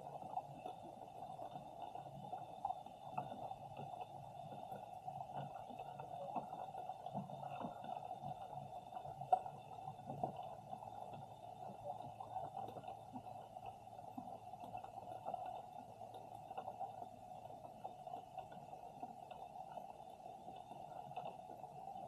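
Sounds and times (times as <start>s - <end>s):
faint clicks and ticks: 0.0s - 22.0s
muffled underwater rumble: 0.0s - 22.0s.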